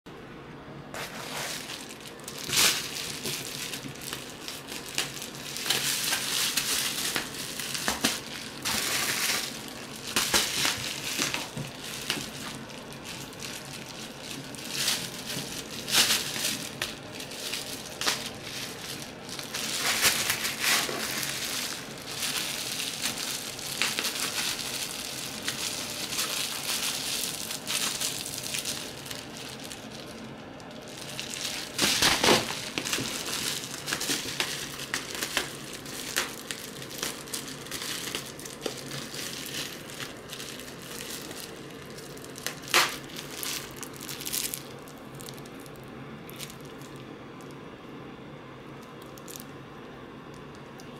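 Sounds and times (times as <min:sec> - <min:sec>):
bubble wrap crinkling: 0:00.9 - 0:47.6, 0:48.8 - 0:49.5
cat biting bubble wrap: 0:01.0 - 0:30.2, 0:30.8 - 0:45.5.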